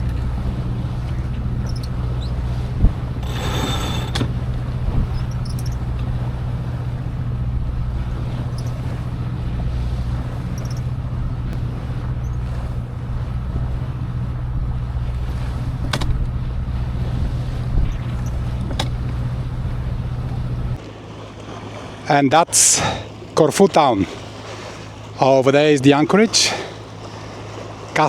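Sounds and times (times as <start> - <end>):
boat engine droning: 0.0 - 28.0
water and wind noise: 0.0 - 28.0.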